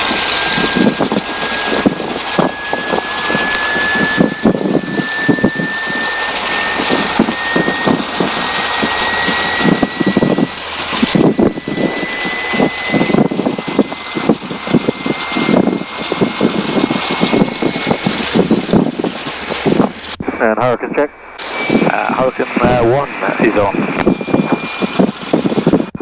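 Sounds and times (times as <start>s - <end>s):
aircraft engine running: 0.0s - 26.0s
faint high whine: 0.0s - 26.0s
propeller wash fluttering: 0.0s - 26.0s.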